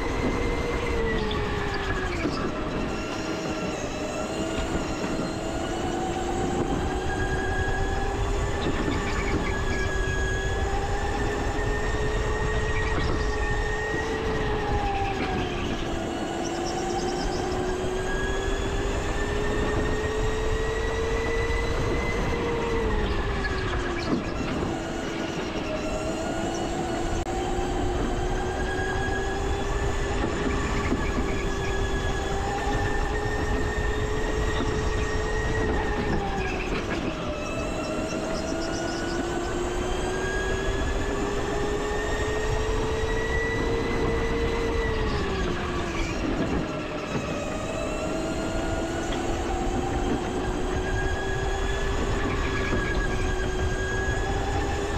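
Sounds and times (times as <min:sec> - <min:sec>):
go-kart engine whine: 0:00.0 - 0:54.9
rumble of wheels and wind: 0:00.0 - 0:54.9.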